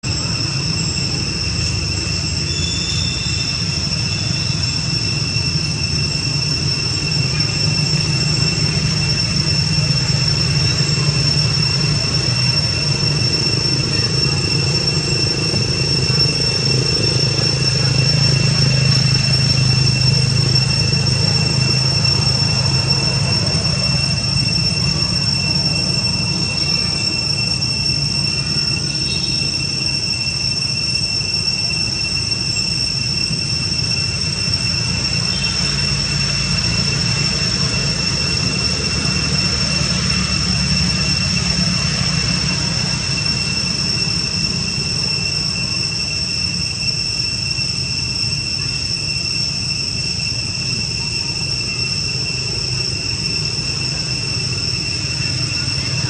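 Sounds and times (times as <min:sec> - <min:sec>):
steady high-pitched whine: 0:00.0 - 0:56.0.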